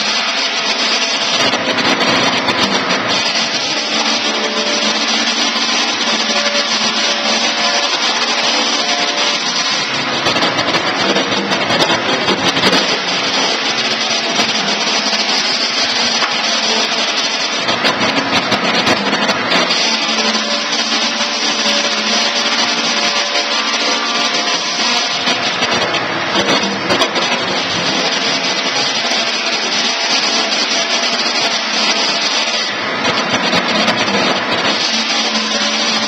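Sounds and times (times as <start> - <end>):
electric sawmill running: 0.0 - 36.0.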